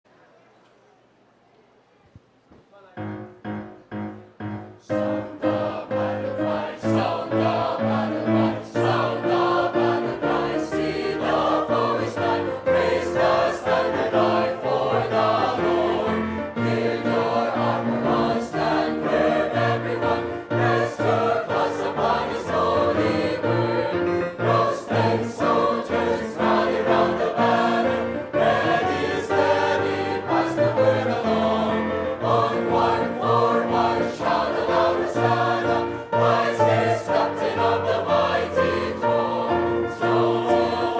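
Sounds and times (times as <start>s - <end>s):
instrumental accompaniment: 2.8s - 40.9s
choir singing a hymn: 3.0s - 40.9s.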